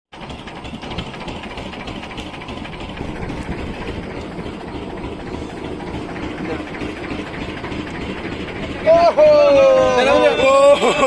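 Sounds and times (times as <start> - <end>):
boat engine low rumble: 0.1 - 11.0.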